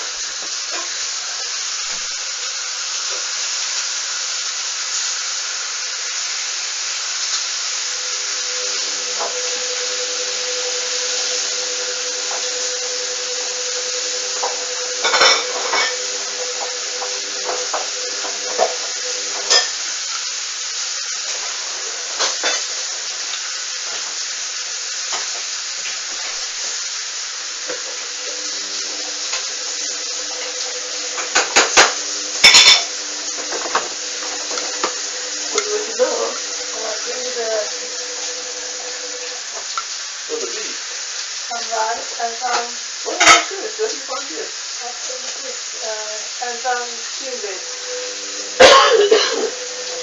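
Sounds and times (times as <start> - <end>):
washing machine motor hum: 6.6 - 25.0, 26.0 - 50.0.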